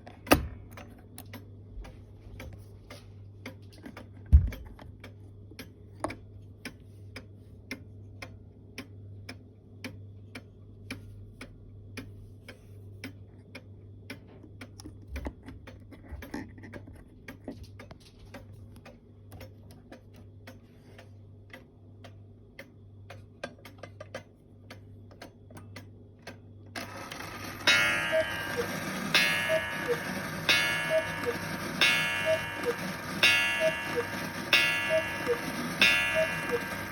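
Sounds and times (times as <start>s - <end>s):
clock ticking: 0.8s - 36.9s.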